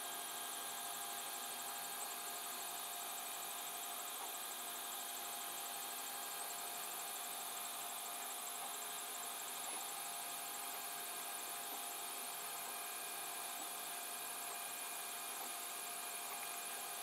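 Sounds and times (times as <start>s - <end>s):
printer fans and motors whirring: 0.0s - 17.0s.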